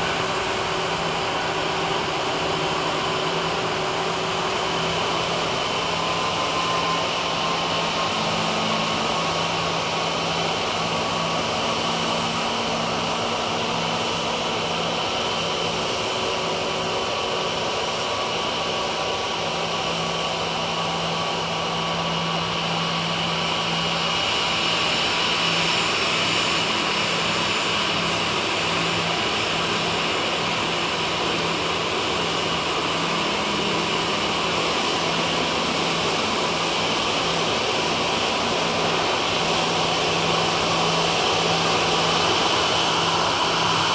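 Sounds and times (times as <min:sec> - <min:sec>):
jet engines running with whine: 0:00.0 - 0:43.9.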